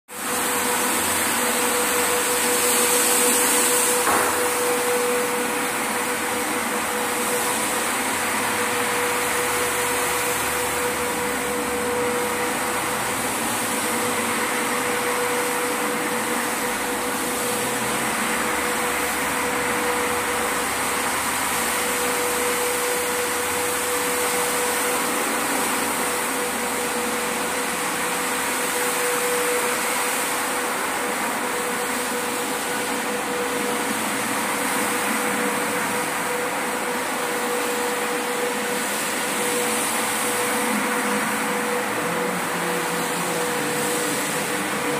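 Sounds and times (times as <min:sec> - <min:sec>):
carpet washing machine motor hum: 0:00.1 - 0:44.9.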